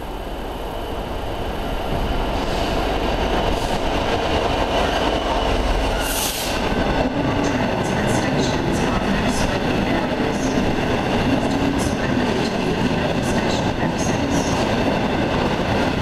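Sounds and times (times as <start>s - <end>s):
diesel locomotive engine: 0.0s - 16.0s.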